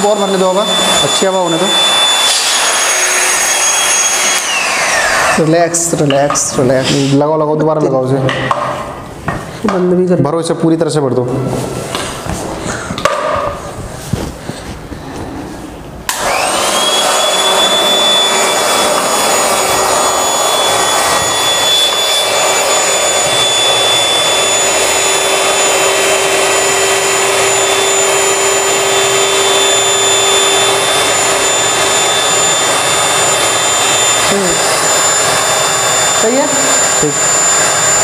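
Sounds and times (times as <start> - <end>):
electric air pump whining: 0.0 - 7.6, 11.3 - 38.0.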